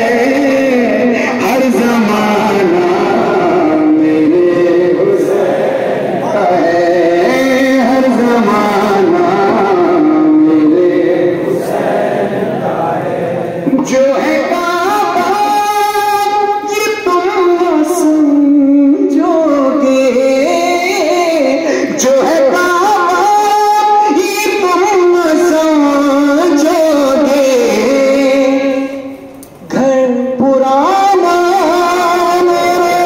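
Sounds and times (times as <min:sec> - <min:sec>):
man singing into microphone: 0:00.0 - 0:33.0.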